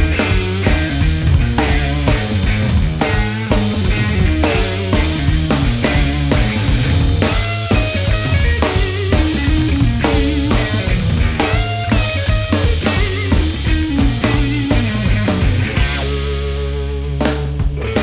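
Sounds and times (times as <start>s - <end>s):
bass guitar: 0.0s - 18.0s
drum kit: 0.0s - 18.0s
electric guitar: 0.0s - 18.0s.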